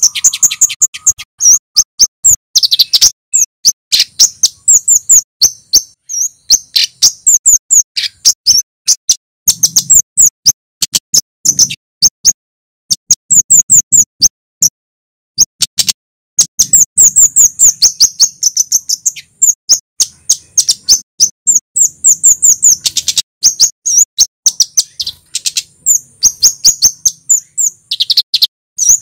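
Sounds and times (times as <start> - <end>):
bird calling sharp high chips: 0.0 - 14.8, 15.4 - 29.0.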